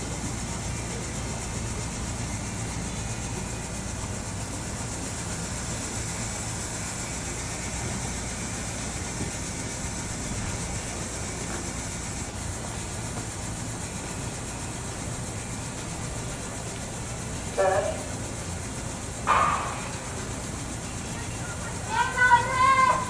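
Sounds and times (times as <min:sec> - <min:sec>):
low stadium rumble: 0:00.0 - 0:23.0.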